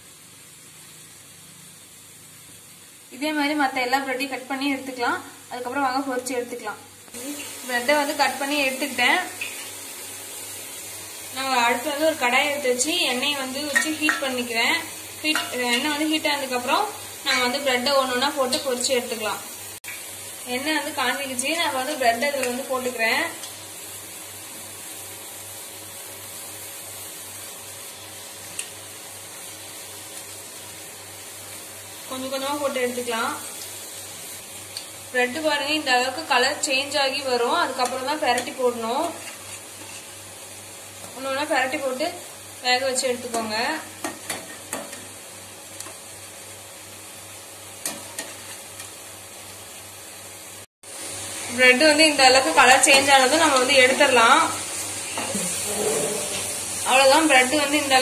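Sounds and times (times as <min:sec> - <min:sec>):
bread sizzling in hot oil: 0:00.0 - 0:58.0.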